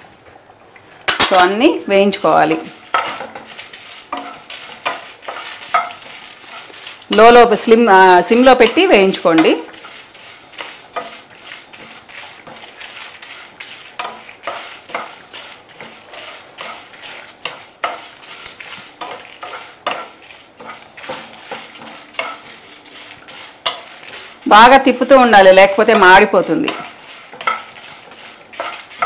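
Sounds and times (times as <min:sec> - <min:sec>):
spices rattling in frying pan: 0:00.0 - 0:29.0
wooden spatula scraping pan: 0:02.2 - 0:29.0.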